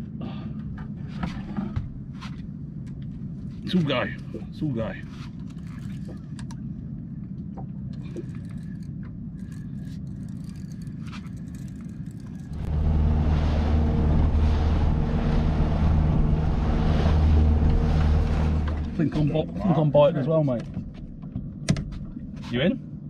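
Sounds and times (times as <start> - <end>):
motorboat engine: 0.0 - 22.4.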